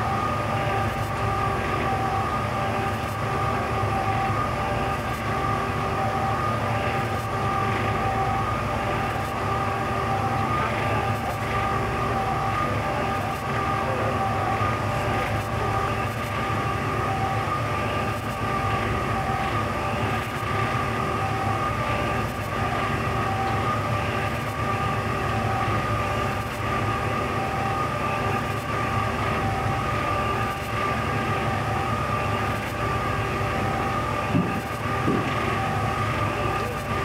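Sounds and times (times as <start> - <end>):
ship engines droning: 0.0 - 37.0.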